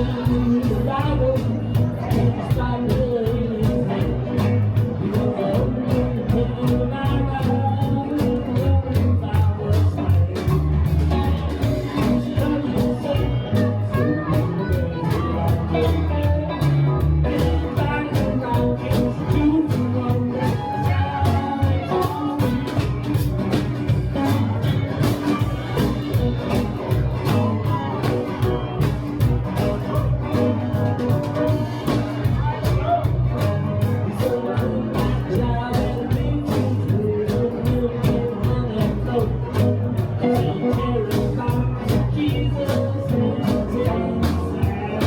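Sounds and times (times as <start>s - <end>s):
bass line: 0.0s - 45.0s
blues band playing: 0.0s - 45.0s
guitar: 0.0s - 45.0s
steady drum beat: 0.0s - 45.0s.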